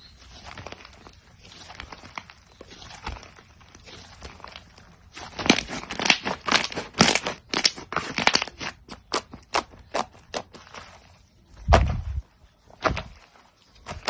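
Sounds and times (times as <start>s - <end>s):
crunchy slime crackling: 0.0s - 14.0s.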